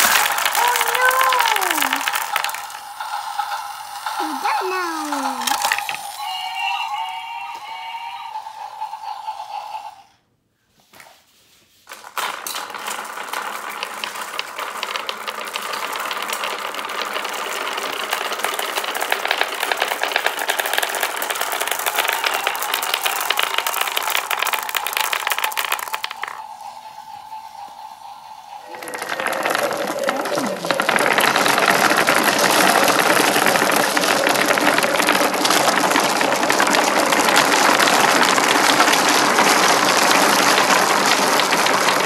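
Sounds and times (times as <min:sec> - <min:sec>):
glass marbles clattering down wooden run: 0:00.0 - 0:06.5, 0:11.9 - 0:27.0, 0:28.6 - 0:42.0.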